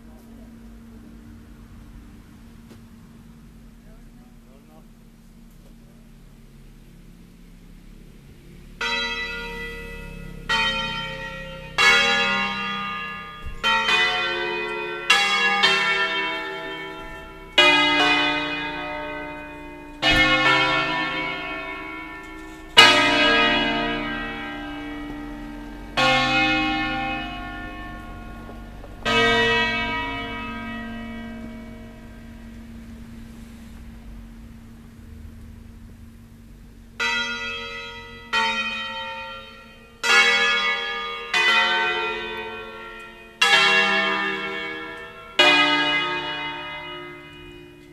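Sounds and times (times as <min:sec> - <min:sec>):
church bell strikes: 0:00.0 - 0:47.9.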